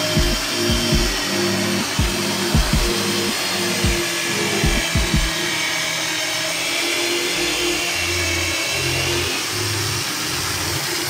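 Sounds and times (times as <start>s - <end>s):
electric drill boring into wood: 0.0s - 11.0s.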